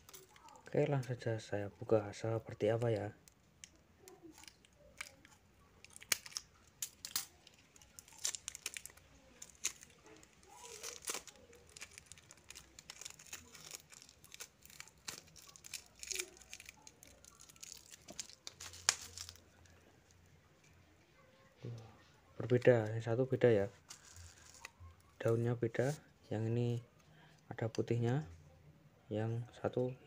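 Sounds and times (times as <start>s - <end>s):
plastic tape crinkling and tearing: 0.0s - 21.3s, 22.0s - 26.0s.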